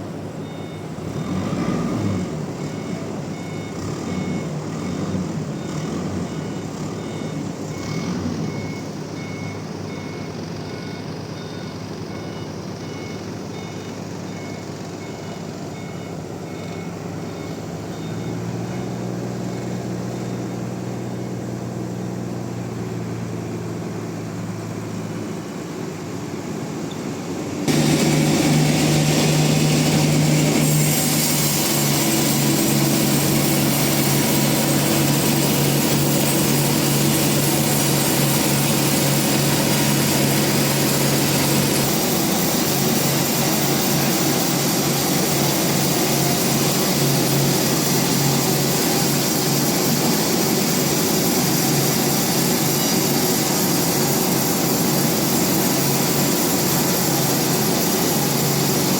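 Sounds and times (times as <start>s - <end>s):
heavy vehicle engine running: 0.0s - 58.9s
loud machine noise: 0.0s - 58.9s
reversing alarm beeping: 0.2s - 21.6s, 27.7s - 54.0s.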